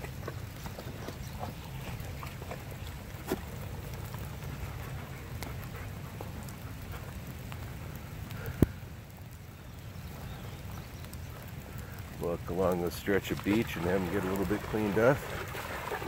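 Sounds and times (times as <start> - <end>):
raindrops ticking: 0.0 - 16.0.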